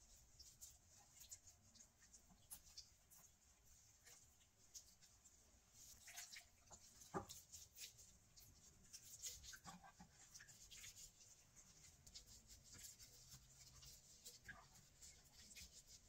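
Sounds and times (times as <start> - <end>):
wet squelching of hands rubbing chicken: 0.0 - 16.0.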